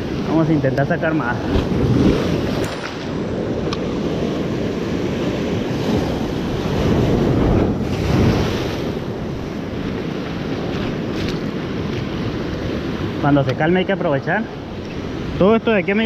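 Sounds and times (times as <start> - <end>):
wind buffeting microphone: 0.0 - 13.7
ocean surf against rocks: 0.0 - 16.0.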